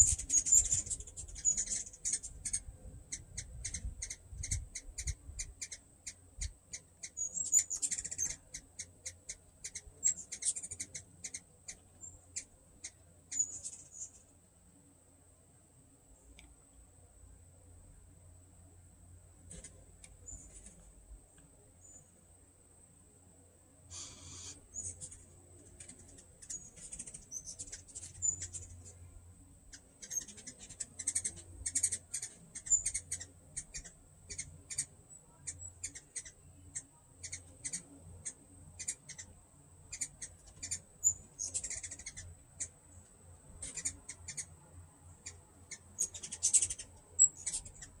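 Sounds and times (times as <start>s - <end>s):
hummingbirds chipping and chattering: 0.0s - 15.5s, 16.1s - 48.0s.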